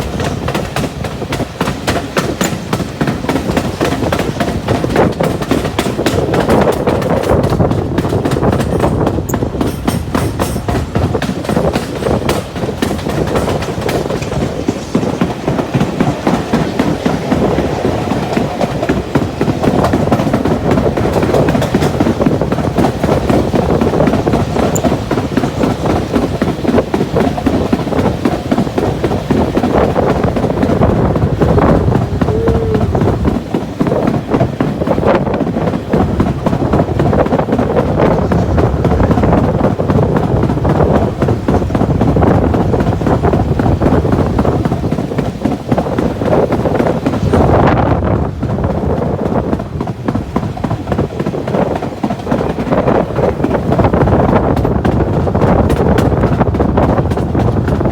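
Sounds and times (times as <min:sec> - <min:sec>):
train rumbling along track: 0:00.0 - 0:57.9
wheels clicking on rails: 0:00.0 - 0:57.9.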